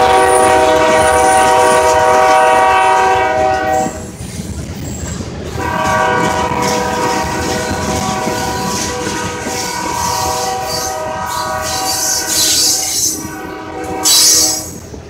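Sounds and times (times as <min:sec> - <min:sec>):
locomotive air horn: 0:00.0 - 0:04.0, 0:05.6 - 0:14.8
freight cars rumbling and clattering: 0:00.0 - 0:15.0.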